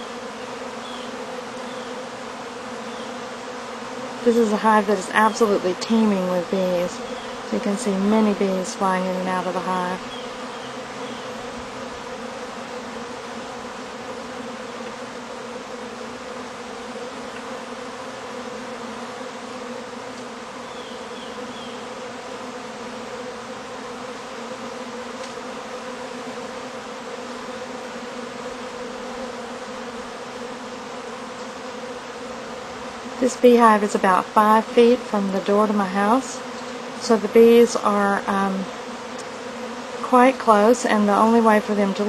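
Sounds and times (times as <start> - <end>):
honeybees buzzing: 0.0 - 42.0.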